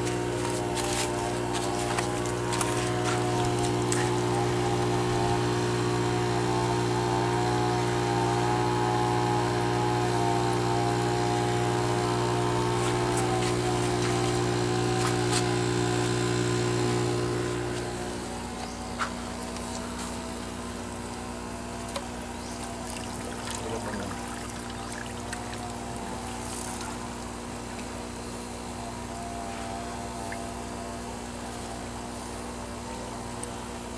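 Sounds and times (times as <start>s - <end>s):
electric pump humming: 0.0s - 33.9s.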